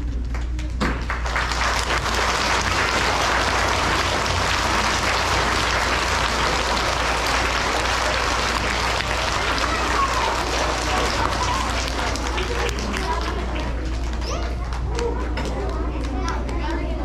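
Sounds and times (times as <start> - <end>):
audience applauding: 1.0 - 15.8.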